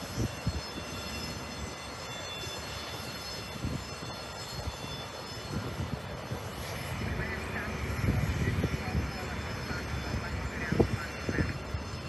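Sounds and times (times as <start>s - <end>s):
faint high whining tones: 0.0s - 12.0s
wind gusting on microphone: 0.0s - 12.0s.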